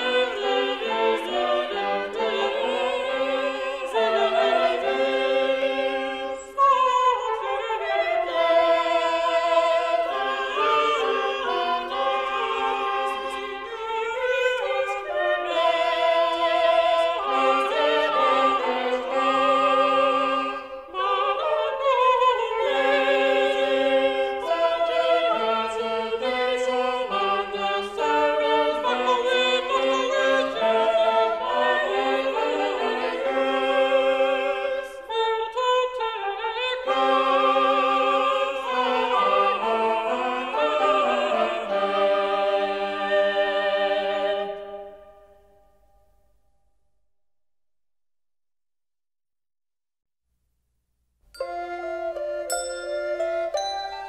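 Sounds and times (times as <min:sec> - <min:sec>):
choir singing: 0:00.0 - 0:45.5, 0:51.4 - 0:54.0.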